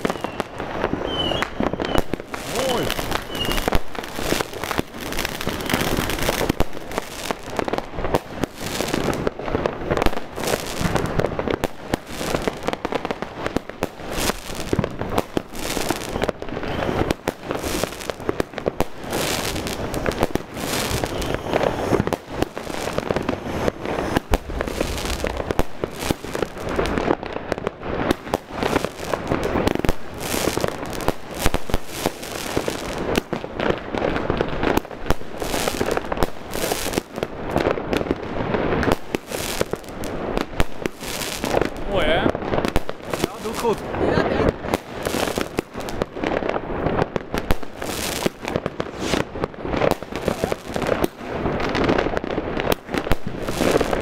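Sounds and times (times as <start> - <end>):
fireworks cake firing shots: 0.0 - 54.0.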